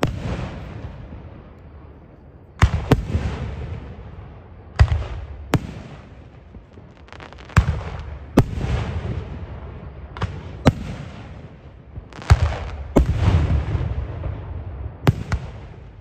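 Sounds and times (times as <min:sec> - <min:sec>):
firework bangs with rumbling echo: 0:00.0 - 0:01.5, 0:02.6 - 0:16.0.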